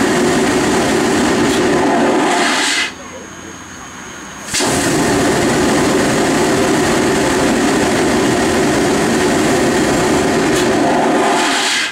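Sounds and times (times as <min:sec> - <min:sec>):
hiss of escaping steam: 0:00.0 - 0:03.0, 0:04.4 - 0:11.9.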